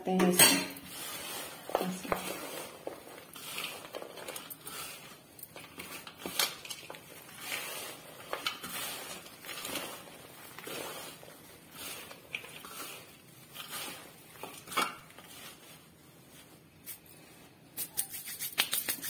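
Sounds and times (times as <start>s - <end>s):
hands mixing crumbly mixture: 0.0s - 19.0s.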